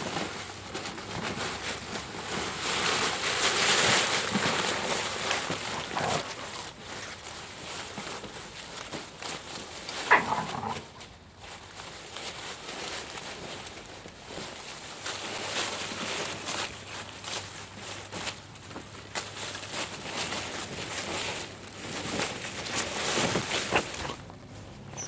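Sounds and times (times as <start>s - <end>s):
dry leaves rustling and crackling: 0.0s - 25.0s.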